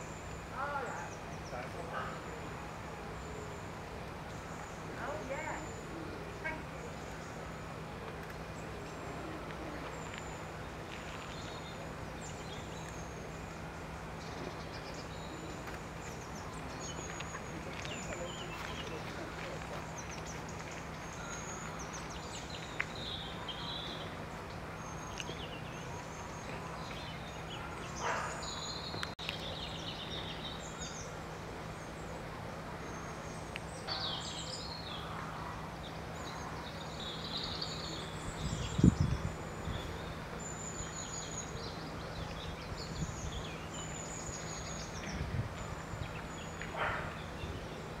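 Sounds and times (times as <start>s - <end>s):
outdoor background noise: 0.0s - 48.0s
small birds chirping: 0.0s - 48.0s.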